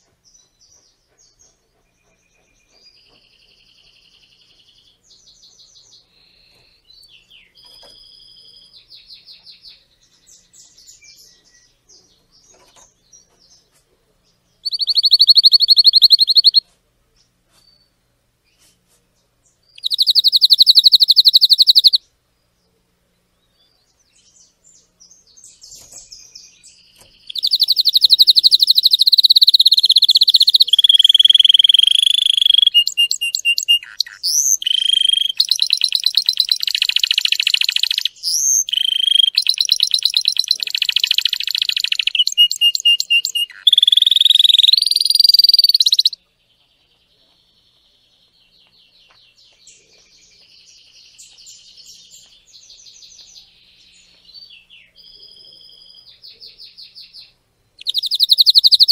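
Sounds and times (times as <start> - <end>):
canary singing trills: 0.0 - 16.6, 19.5 - 22.1, 23.4 - 58.9.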